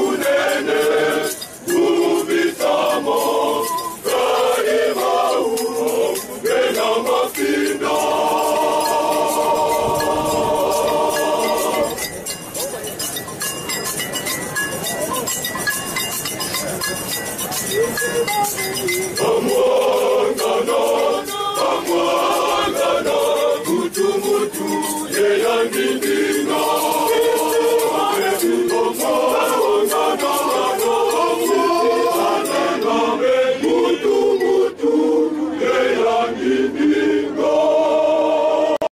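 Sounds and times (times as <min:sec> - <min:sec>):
choir singing gospel song: 0:00.0 - 0:12.1, 0:19.0 - 0:38.9
shaker: 0:00.0 - 0:38.0.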